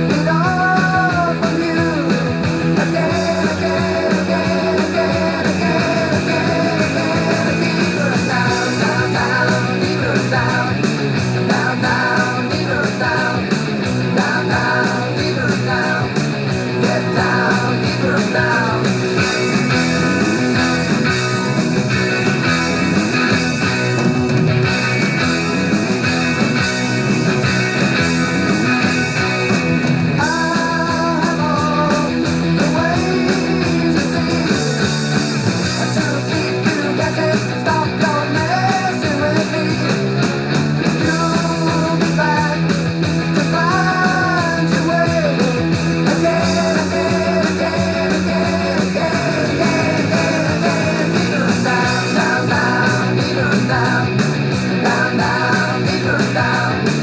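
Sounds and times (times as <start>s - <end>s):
rock song with singer: 0.0s - 57.0s.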